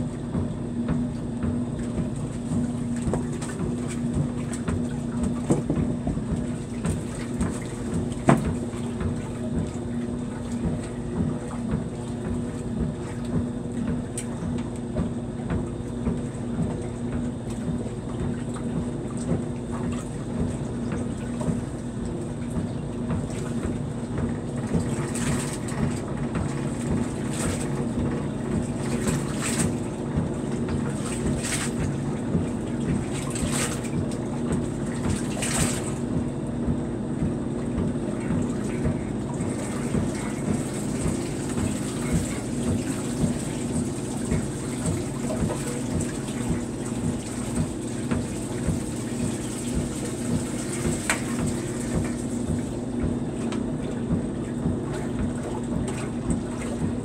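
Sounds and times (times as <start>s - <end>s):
agitator sloshing water: 0.0s - 57.0s
washer motor hum: 0.0s - 57.0s.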